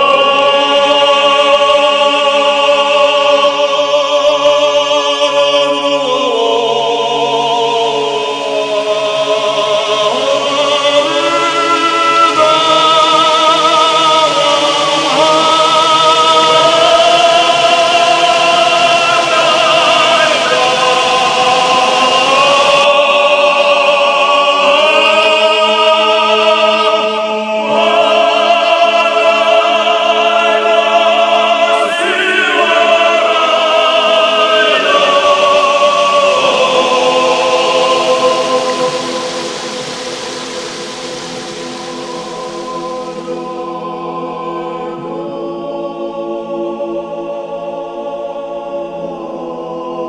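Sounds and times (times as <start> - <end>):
operatic choral singing: 0.0 - 50.0.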